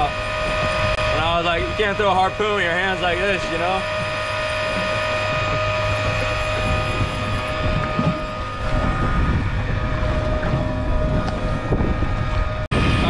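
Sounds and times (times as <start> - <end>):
boat machinery whine and rumble: 0.0 - 13.0
wind on microphone: 0.0 - 13.0.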